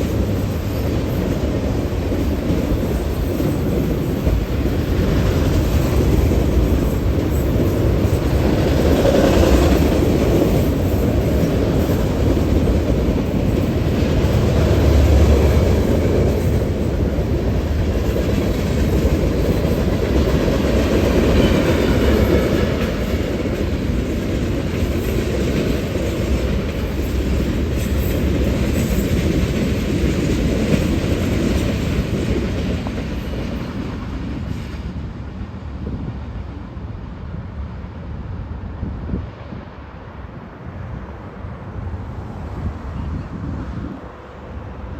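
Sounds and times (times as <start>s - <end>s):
train wheels on rail: 0.0s - 44.9s.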